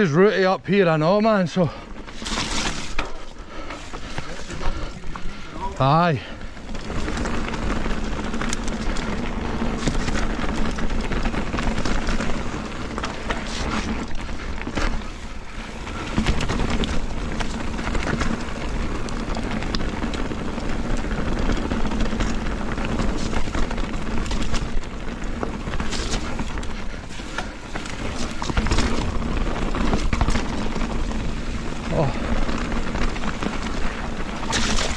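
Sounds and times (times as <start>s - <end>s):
bike tires rolling on trail: 0.0s - 34.9s
bike clattering over roots: 0.8s - 34.9s.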